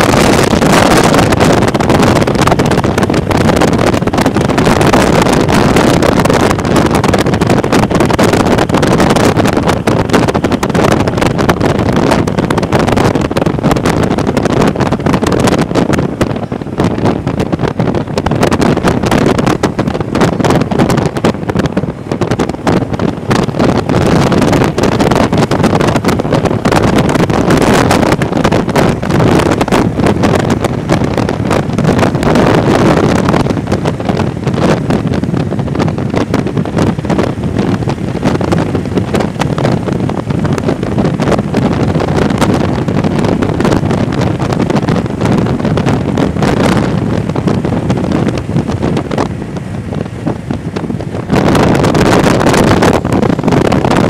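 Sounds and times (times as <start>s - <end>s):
road noise: 0.0s - 54.0s
wind buffeting microphone: 0.0s - 54.0s.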